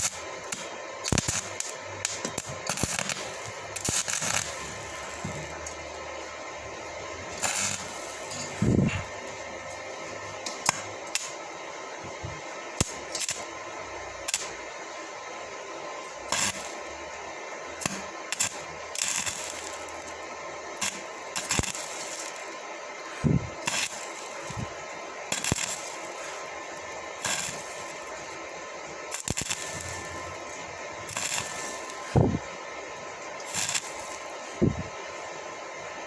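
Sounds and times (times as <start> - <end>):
welding pops and crackles: 0.0 - 6.0, 7.2 - 11.5, 12.1 - 13.6, 14.2 - 14.8, 16.0 - 17.0, 17.8 - 35.1
welding arc hissing: 0.0 - 36.0.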